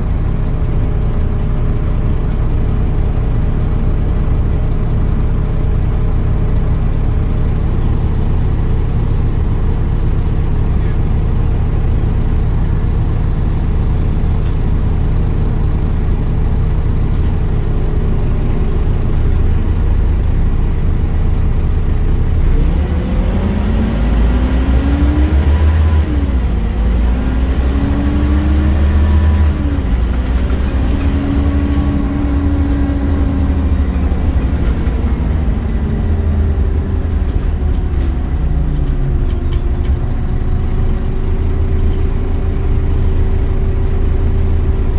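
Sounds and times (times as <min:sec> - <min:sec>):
bus diesel engine: 0:00.0 - 0:44.9.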